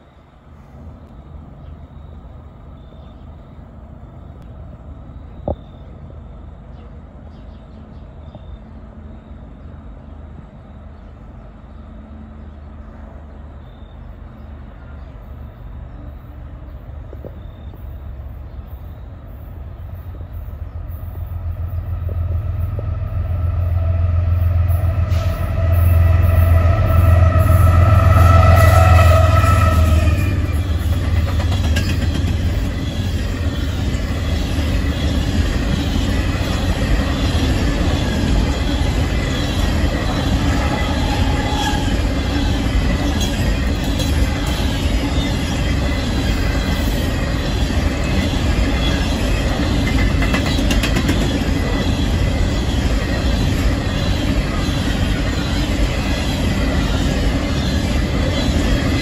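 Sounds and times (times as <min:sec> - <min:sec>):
diesel locomotive engine rumble: 0:00.0 - 0:59.0
wheel and rail noise: 0:00.0 - 0:59.0.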